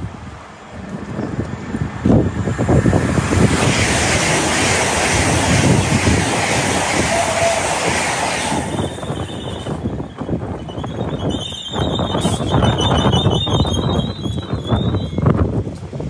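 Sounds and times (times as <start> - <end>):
train passing at speed: 0.0 - 16.0
wind buffeting microphone: 0.0 - 16.0.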